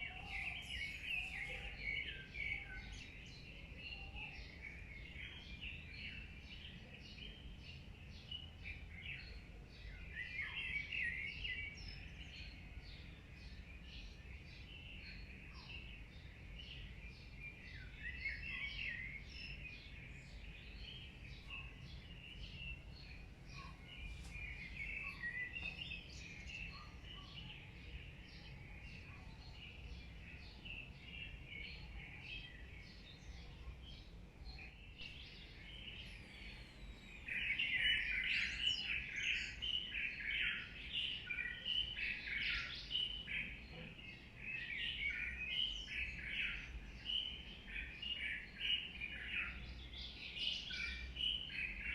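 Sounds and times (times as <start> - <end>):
birds chirping and singing: 0.0 - 51.9
low steady background hum: 0.0 - 51.9.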